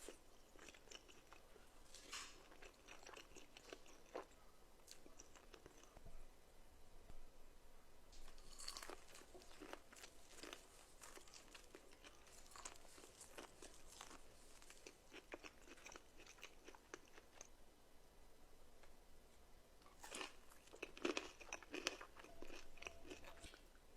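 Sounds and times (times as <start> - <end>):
crisp food being chewed: 0.0 - 6.0, 8.2 - 17.5, 19.8 - 23.7.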